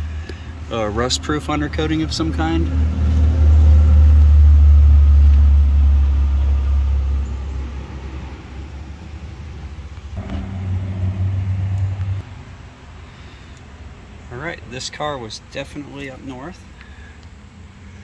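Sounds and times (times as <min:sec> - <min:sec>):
passing traffic engine rumble: 0:00.0 - 0:18.0
vehicle rumble: 0:00.0 - 0:18.0.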